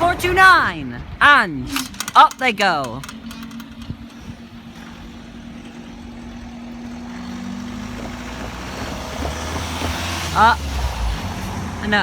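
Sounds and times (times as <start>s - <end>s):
barrier motor humming: 0.0s - 12.0s
road vehicle noise: 0.0s - 12.0s.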